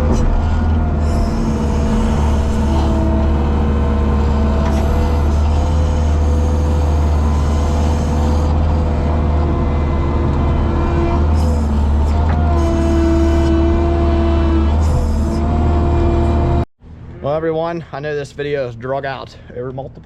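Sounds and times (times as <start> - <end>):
farm machinery engine humming: 0.0 - 16.6.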